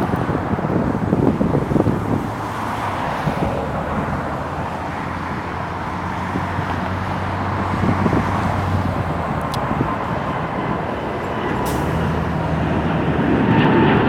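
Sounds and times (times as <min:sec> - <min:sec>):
jet engine noise: 0:00.0 - 0:14.0.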